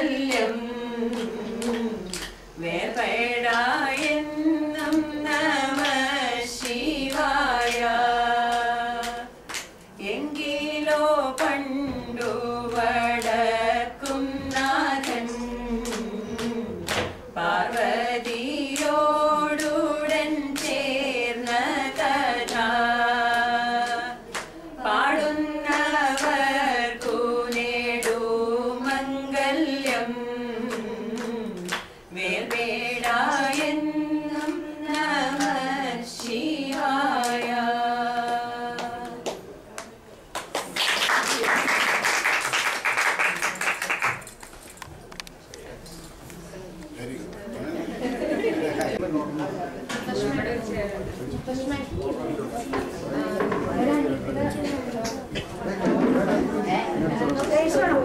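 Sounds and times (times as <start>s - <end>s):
women singing together: 0.0s - 40.0s, 49.9s - 58.0s.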